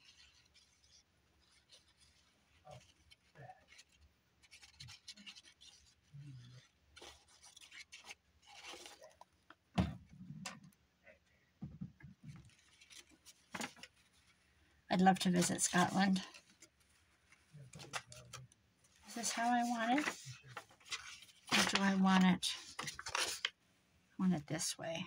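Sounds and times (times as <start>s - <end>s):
paper rustling and scraping: 0.0s - 9.3s, 12.2s - 23.6s.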